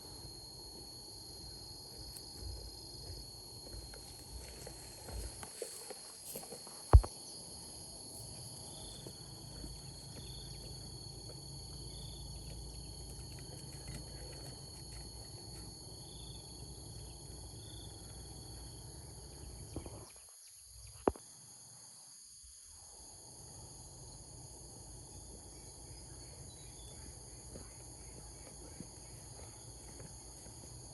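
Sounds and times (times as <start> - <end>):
insects trilling: 0.0 - 30.9.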